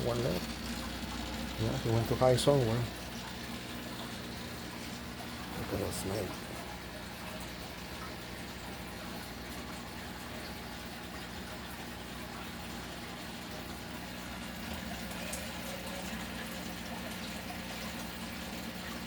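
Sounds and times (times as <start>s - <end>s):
low mechanical hum: 0.0s - 19.0s
running water: 0.0s - 19.0s.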